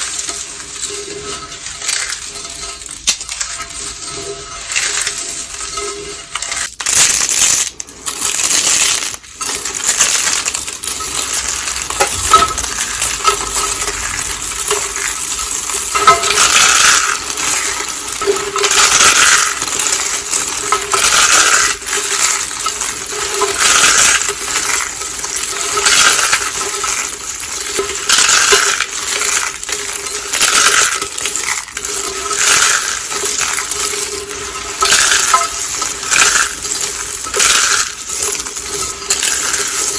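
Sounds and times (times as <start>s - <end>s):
soap being crushed crunching: 0.0s - 39.9s.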